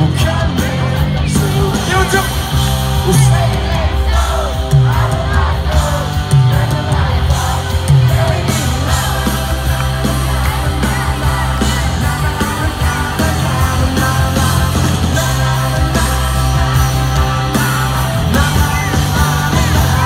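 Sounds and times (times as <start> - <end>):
heavy steady bass: 0.0 - 20.0
live country rock band: 0.0 - 20.0.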